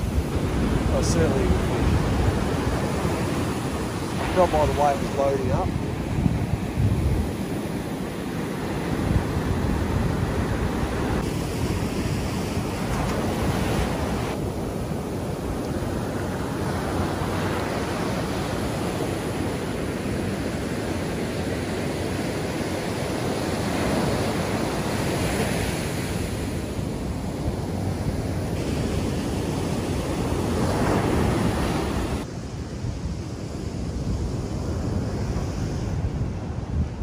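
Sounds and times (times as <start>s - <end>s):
waves breaking on beach: 0.0s - 37.0s
wind on microphone: 0.0s - 37.0s.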